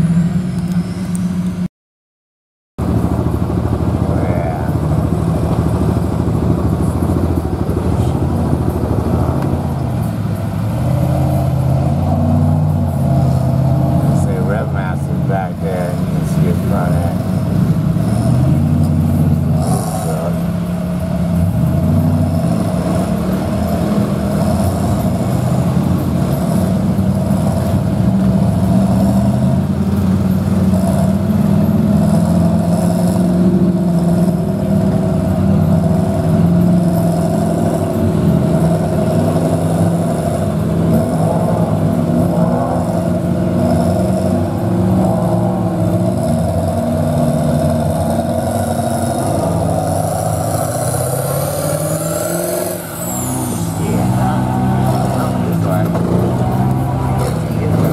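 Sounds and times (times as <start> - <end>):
truck engine revving: 2.8 - 57.9.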